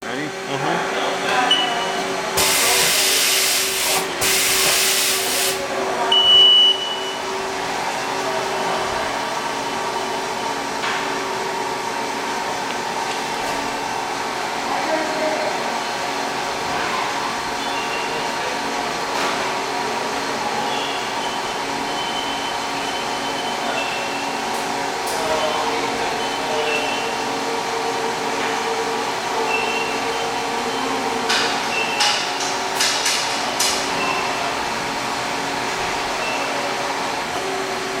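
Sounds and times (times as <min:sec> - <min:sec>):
machine hum with whining tones: 0:00.0 - 0:38.0.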